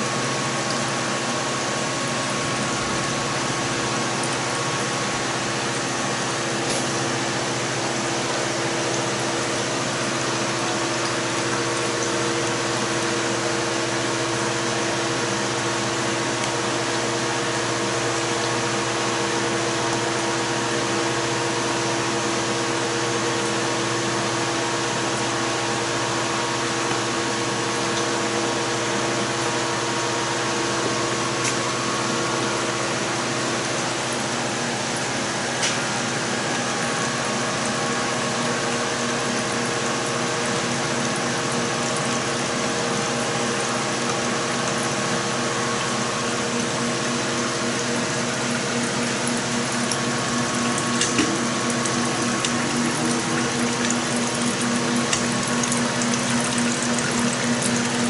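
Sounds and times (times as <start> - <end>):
steady machine hum: 0.0 - 58.0.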